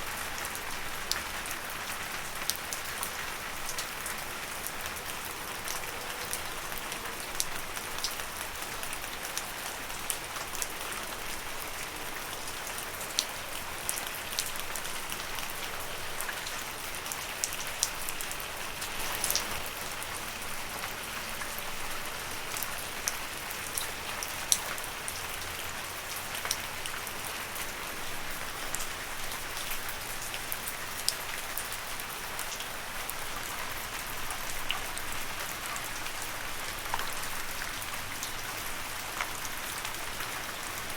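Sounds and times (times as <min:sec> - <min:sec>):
gentle rain on leaves: 0:00.0 - 0:40.9.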